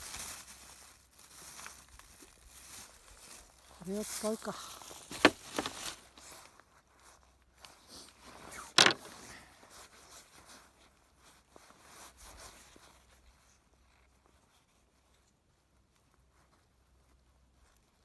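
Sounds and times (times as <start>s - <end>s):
rustling and handling materials: 0.0s - 18.0s.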